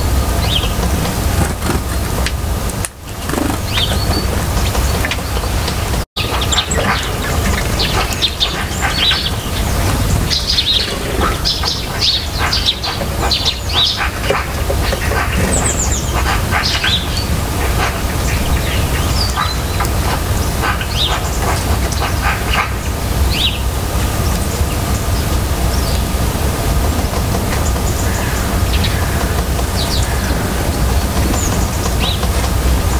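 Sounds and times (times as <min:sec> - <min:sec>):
songbirds chirping: 0:00.0 - 0:32.9
steady low rumble: 0:00.0 - 0:32.9.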